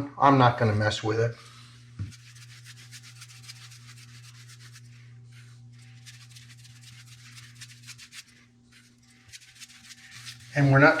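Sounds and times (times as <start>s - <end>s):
paintbrush swishing on a wall: 2.0s - 11.0s.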